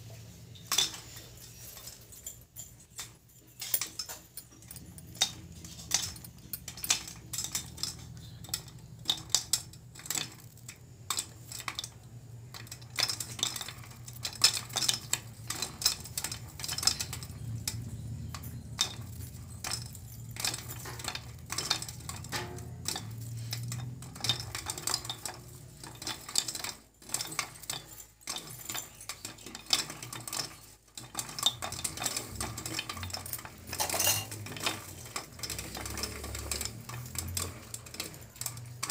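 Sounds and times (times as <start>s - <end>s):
popcorn popping in metal pot: 0.0s - 38.9s.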